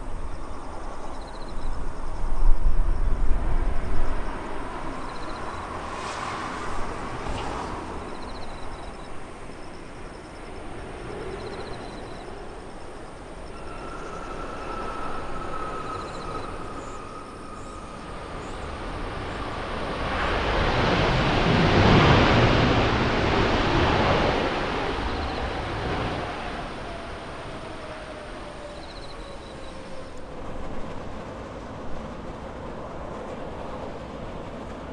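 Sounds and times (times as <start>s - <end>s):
jet airliner passing by: 0.0s - 34.9s.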